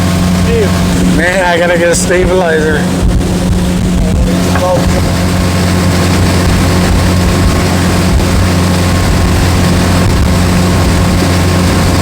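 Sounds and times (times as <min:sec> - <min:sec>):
motorboat engine droning: 0:00.0 - 0:12.0
rushing water: 0:00.0 - 0:12.0
wind: 0:00.0 - 0:12.0.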